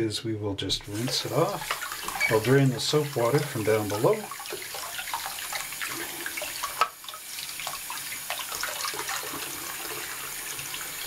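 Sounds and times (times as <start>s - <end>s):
tap water splashing on plastic: 0.9s - 10.8s.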